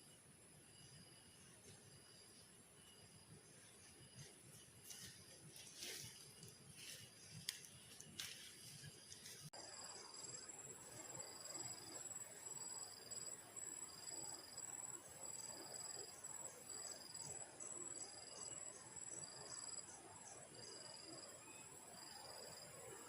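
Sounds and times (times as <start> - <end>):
insect high pulsing buzz: 0.0 - 23.0.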